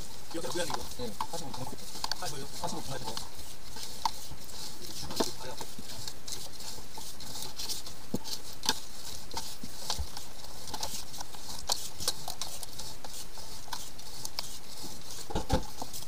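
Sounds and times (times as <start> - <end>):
drain cable spinning hiss: 0.0 - 16.0.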